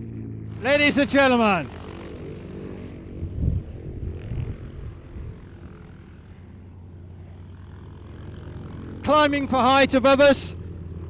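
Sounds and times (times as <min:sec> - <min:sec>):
piston aircraft engine droning: 0:00.0 - 0:11.0.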